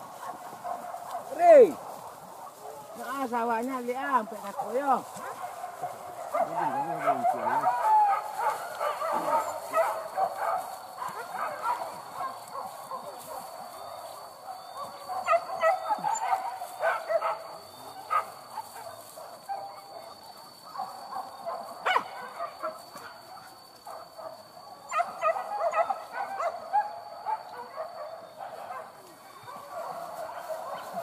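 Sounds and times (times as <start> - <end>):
dogs barking and yelping: 0.0 - 31.0.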